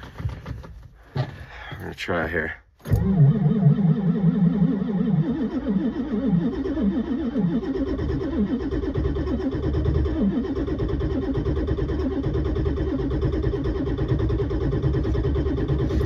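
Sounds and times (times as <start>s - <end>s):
diesel engine starter cranking: 0.0s - 1.1s, 2.8s - 16.0s.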